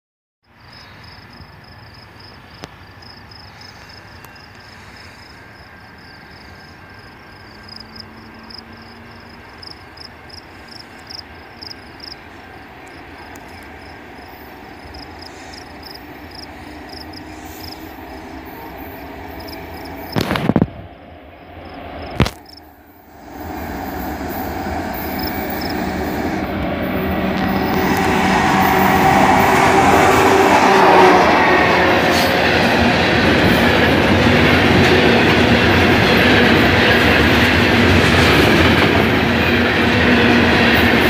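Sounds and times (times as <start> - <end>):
diesel train rumble: 2.0 - 41.0.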